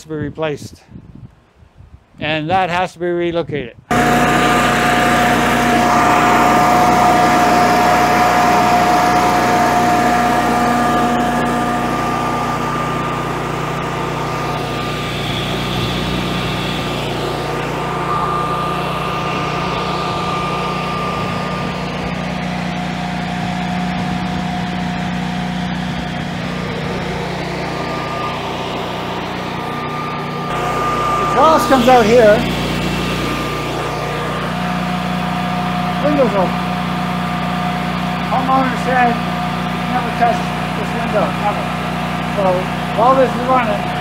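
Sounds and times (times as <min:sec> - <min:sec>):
generator engine hum: 0:03.8 - 0:44.0
steady whine: 0:03.9 - 0:44.0.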